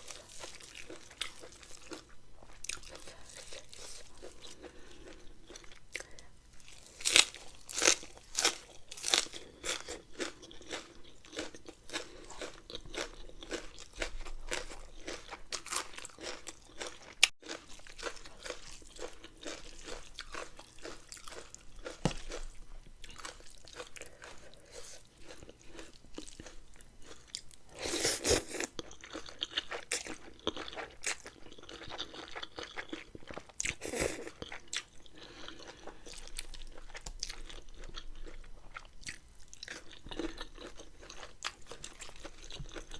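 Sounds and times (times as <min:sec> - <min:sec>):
chewing and crunching food: 0:00.0 - 0:42.9.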